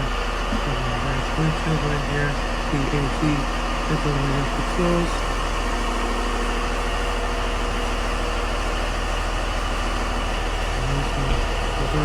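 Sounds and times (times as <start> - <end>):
air conditioning blower hiss: 0.0 - 12.0
diesel bus engine idling: 0.0 - 12.0.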